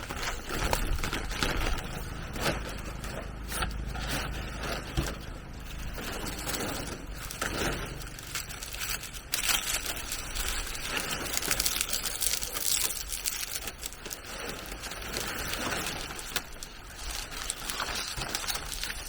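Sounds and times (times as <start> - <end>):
clicks and scrapes: 0.0 - 19.0
rustling handling noise: 0.0 - 19.0.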